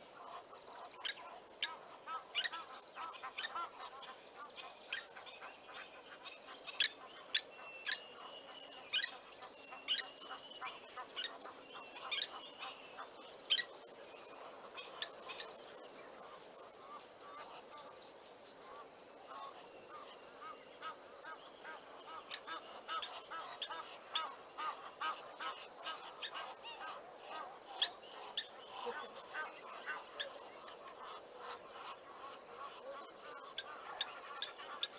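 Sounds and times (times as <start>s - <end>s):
birds calling and whistling: 0.0s - 34.9s
faint outdoor hush: 0.0s - 34.9s.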